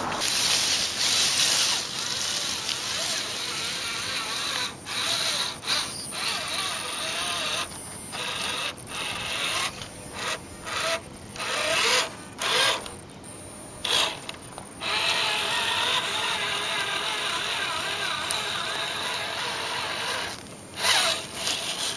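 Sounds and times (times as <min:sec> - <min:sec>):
electric motor whining with gear noise: 0:00.0 - 0:13.0, 0:13.8 - 0:21.9.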